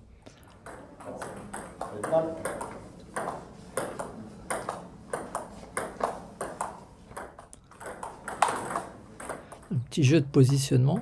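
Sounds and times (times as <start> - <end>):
ping pong ball clicking: 0.4 - 9.7.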